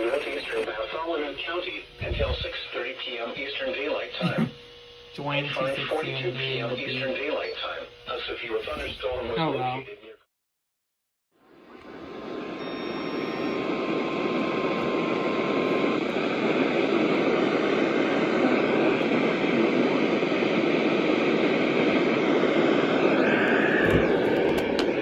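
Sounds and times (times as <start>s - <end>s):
radio static hiss: 0.0s - 10.2s, 12.0s - 25.0s.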